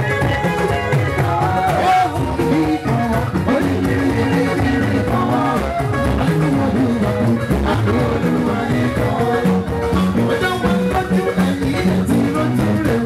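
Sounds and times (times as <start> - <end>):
plucked guitar: 0.0 - 13.0
steady drum rhythm: 0.0 - 13.0.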